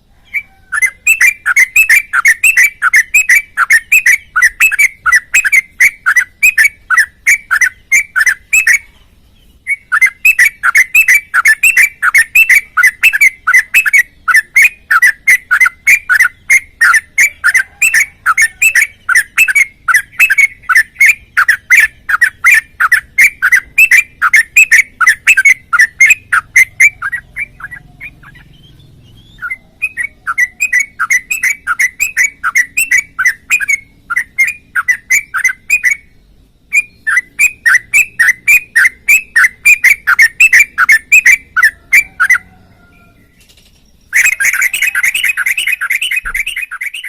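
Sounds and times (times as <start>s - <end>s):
bulbul singing: 0.0s - 47.0s.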